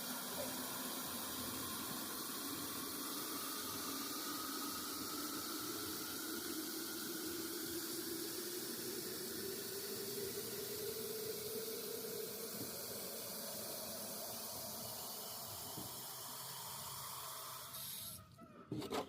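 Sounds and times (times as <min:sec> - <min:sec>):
hose water running into container: 0:00.0 - 0:18.2.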